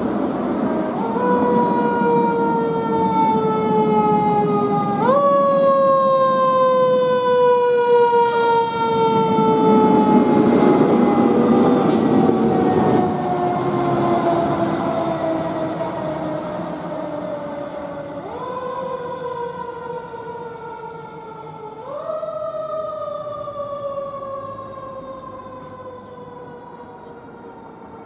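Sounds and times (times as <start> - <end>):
fire truck siren wailing: 0.0 - 28.0
truck engine and road noise: 0.0 - 28.0.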